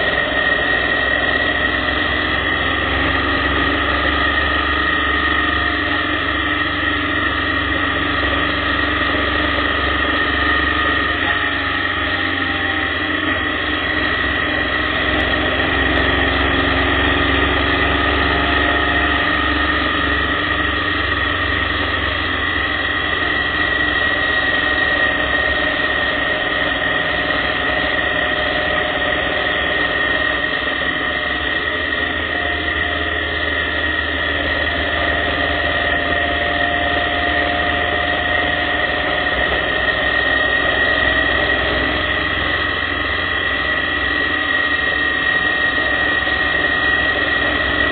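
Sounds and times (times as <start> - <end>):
high-pitched whine: 0.0 - 47.9
motorcycle engine running: 0.0 - 47.9.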